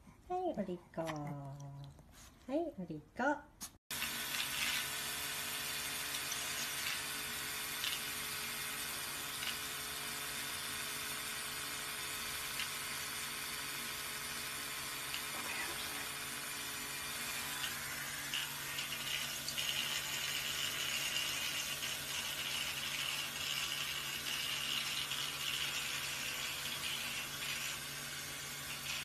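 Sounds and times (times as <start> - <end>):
electric toothbrush buzzing: 3.9 - 29.0.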